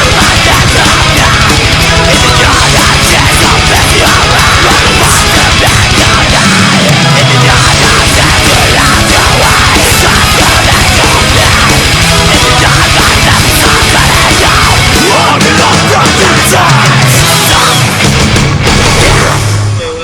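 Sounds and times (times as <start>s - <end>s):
fast bass drumming: 0.0s - 19.8s
heavy metal music: 0.0s - 20.0s.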